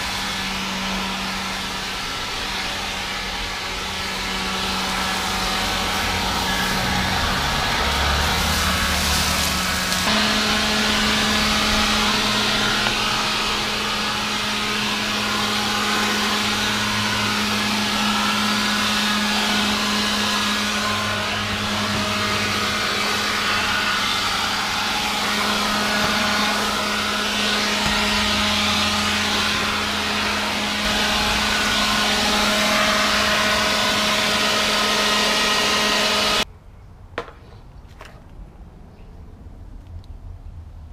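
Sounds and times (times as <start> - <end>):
leaf blower running: 0.0 - 36.5.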